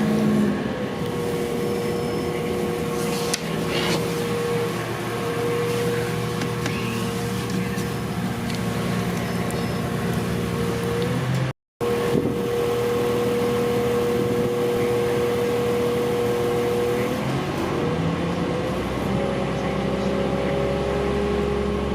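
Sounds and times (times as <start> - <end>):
train engine and machinery hum: 0.0 - 21.9.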